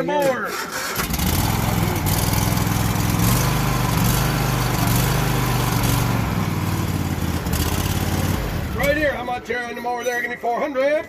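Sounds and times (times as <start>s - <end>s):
lawn mower engine running: 0.5s - 9.5s.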